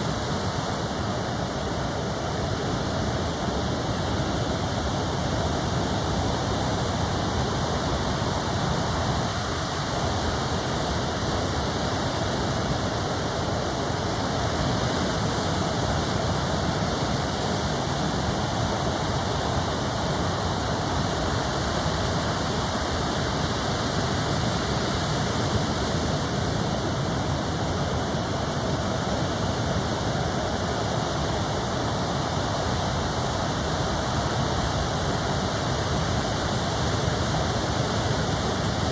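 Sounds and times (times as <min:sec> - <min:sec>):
ocean surf roaring: 0:00.0 - 0:38.9.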